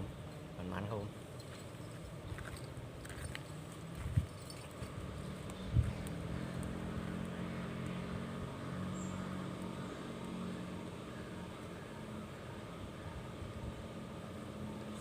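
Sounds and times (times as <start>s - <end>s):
motor engine running: 1.4s - 15.0s.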